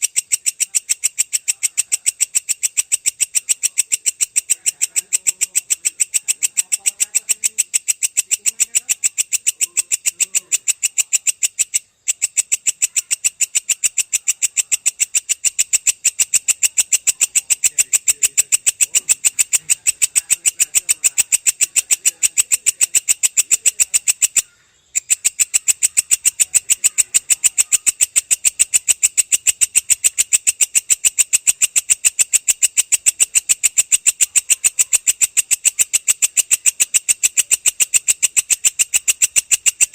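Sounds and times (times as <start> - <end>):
katydid shrill ticking: 0.0 - 39.9.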